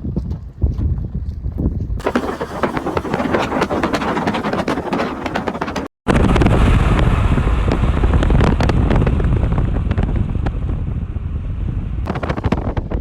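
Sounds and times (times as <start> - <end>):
storm wind buffeting microphone: 0.2 - 13.0.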